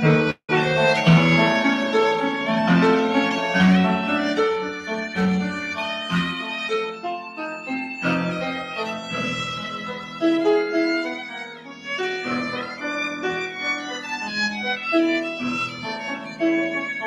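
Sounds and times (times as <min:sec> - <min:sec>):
violin playing classical melody: 0:00.0 - 0:17.0.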